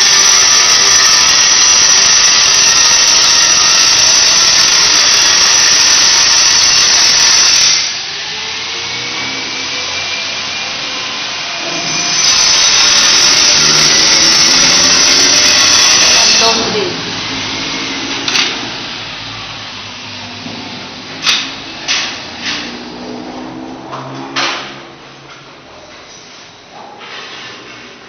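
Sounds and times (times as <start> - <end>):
power tool running: 0.0 - 23.7.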